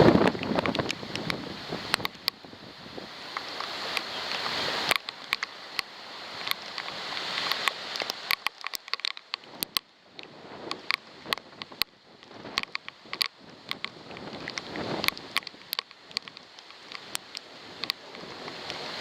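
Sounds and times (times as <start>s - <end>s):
raindrops ticking on camera: 0.0s - 2.5s, 3.2s - 19.0s
wind gusts hissing: 0.0s - 8.4s, 9.4s - 19.0s.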